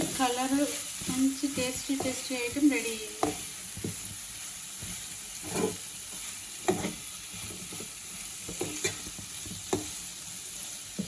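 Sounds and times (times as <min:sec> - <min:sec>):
spoon scraping and knocking pan: 0:00.0 - 0:10.2
food sizzling in a pan: 0:00.0 - 0:11.0.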